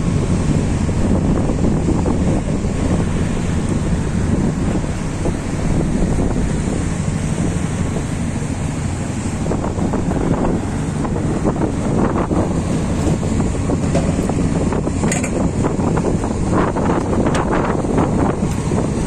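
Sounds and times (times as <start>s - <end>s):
water rushing along hull: 0.0s - 19.0s
wind rumble on microphone: 0.0s - 19.0s.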